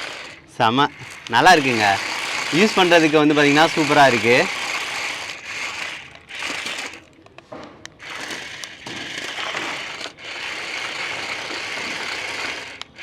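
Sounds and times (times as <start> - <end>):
toy car motors whirring: 0.0 - 13.0.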